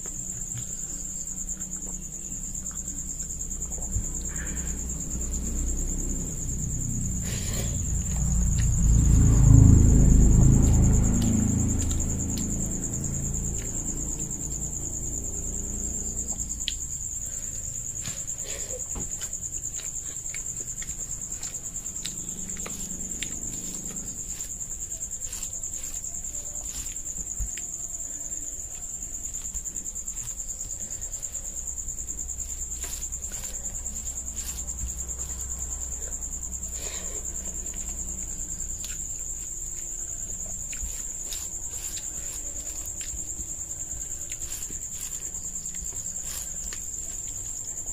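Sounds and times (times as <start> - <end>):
chewing: 0.0 - 47.9.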